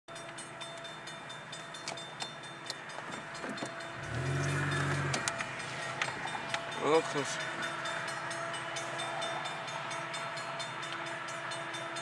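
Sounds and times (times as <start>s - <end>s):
distant train rumble: 0.1s - 12.0s
low steady tone: 0.1s - 12.0s.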